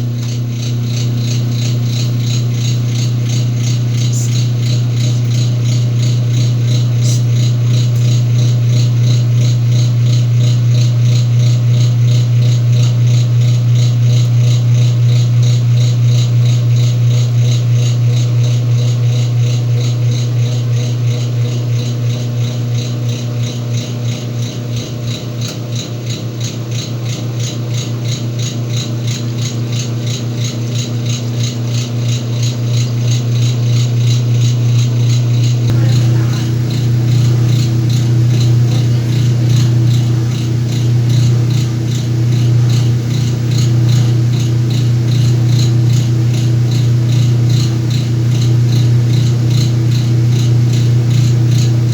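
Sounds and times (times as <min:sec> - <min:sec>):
washing machine running: 0:00.0 - 0:51.9.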